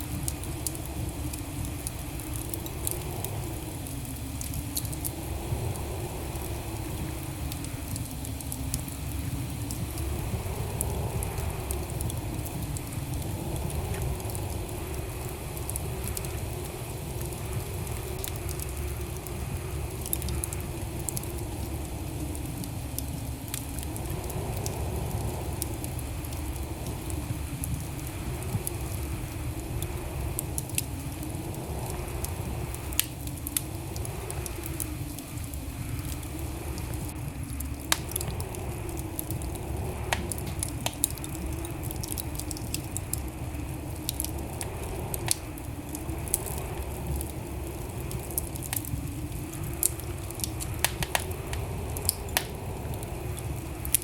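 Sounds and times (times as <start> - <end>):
fire crackling and popping: 0.0 - 54.0
flames rumbling: 0.0 - 54.0.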